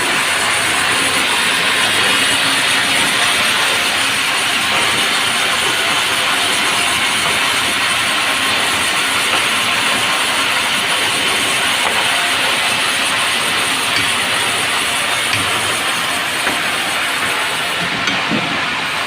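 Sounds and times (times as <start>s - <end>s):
sawmill saw running: 0.0s - 19.0s.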